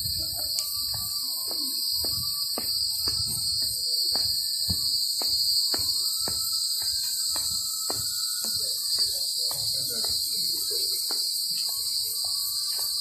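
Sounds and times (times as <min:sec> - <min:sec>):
footsteps on paved path: 0:00.0 - 0:13.0
insects chorus: 0:00.0 - 0:13.0.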